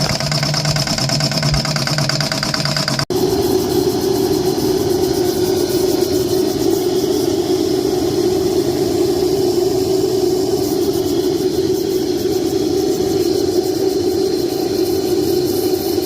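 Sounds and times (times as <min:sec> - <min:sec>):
steam injector rushing: 0:00.0 - 0:16.0.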